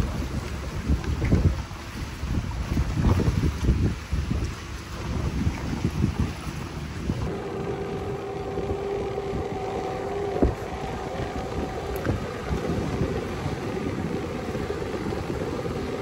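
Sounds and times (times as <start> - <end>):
steady humming tone: 0.0 - 16.0
wind buffeting microphone: 0.0 - 16.0.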